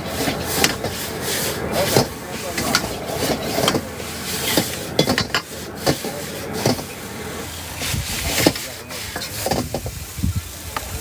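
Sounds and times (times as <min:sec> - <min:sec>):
metal spatula scraping a wok: 0:00.0 - 0:10.2
steady noisy roar: 0:00.0 - 0:11.0.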